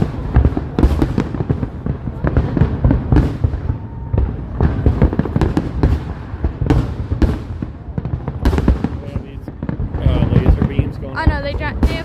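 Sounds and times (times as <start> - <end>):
fireworks booming and crackling: 0.0 - 12.0
sharp firework reports: 0.0 - 12.0.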